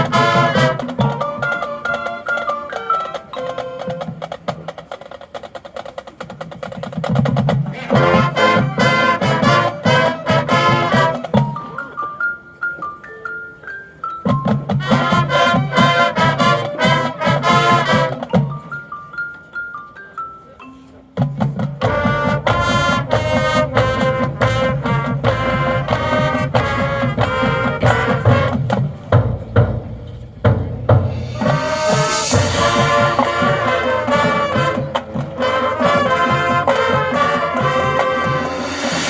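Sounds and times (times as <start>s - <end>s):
mallet percussion melody: 0.0s - 5.0s, 7.0s - 39.0s
marching band brass and drums: 0.0s - 12.0s, 14.2s - 18.9s, 21.2s - 39.0s.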